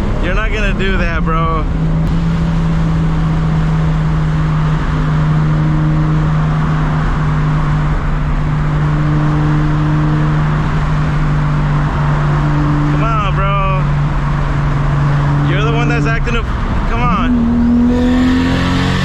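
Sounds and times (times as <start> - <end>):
car exhaust drone: 0.0 - 19.0
road and wind noise: 0.0 - 19.0.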